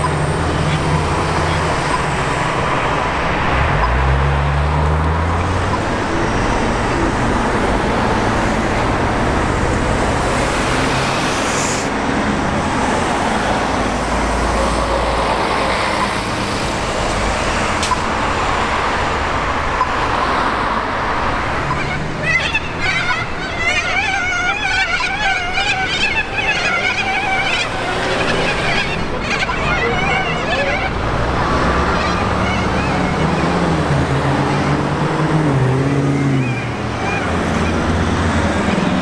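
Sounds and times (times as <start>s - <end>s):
bus accelerating: 0.0s - 39.0s
bus passing with engine drone: 0.0s - 39.0s
road traffic: 0.0s - 39.0s.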